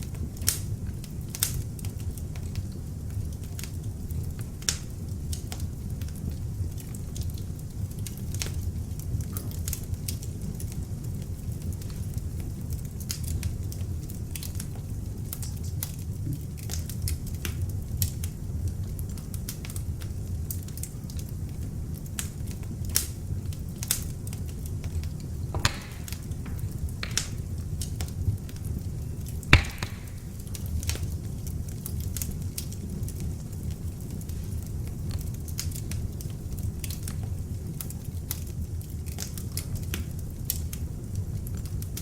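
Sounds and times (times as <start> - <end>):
log fire crackling and popping: 0.0 - 42.0
low rumble of flames: 0.0 - 42.0.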